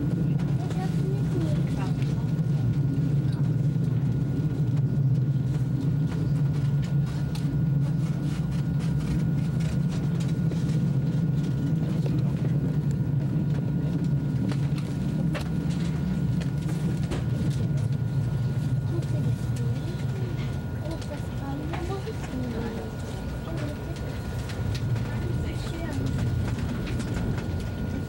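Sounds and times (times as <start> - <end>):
train interior rumble: 0.0 - 28.0.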